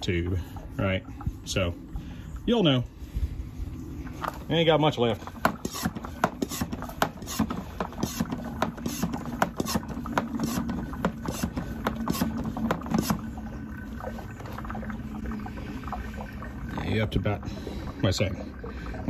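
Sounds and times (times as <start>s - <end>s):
oil gurgling up a hose: 0.0s - 19.0s.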